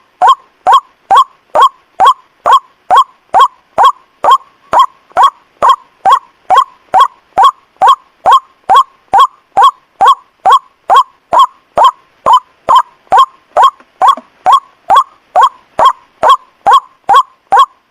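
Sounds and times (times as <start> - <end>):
waterhen call: 0.2 - 17.9.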